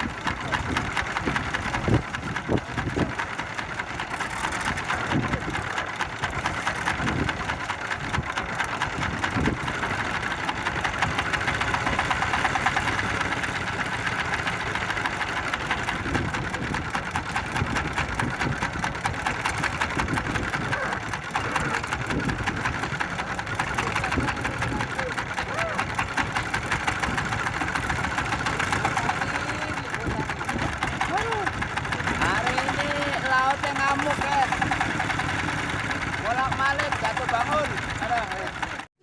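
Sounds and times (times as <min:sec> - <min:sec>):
boat engine pulsing: 0:00.0 - 0:39.0.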